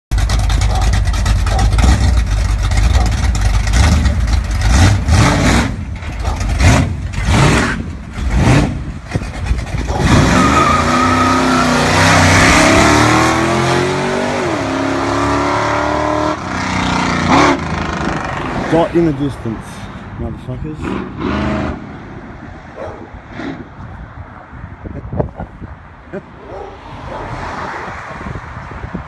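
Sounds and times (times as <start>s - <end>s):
truck engine revving: 0.1s - 24.0s.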